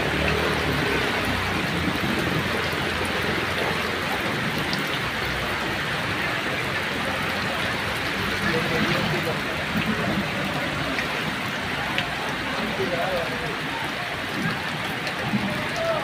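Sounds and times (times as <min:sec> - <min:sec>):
heavy rain on flooded street: 0:00.0 - 0:16.0.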